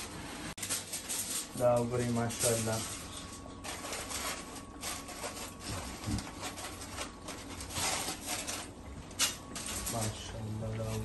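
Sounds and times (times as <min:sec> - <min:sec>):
aluminium foil crinkling: 0:00.6 - 0:11.0.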